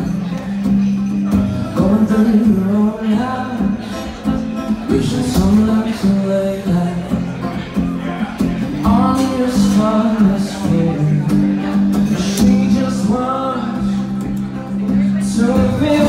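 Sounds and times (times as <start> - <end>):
acoustic guitar: 0.0 - 16.0
man singing folk song: 0.0 - 16.0.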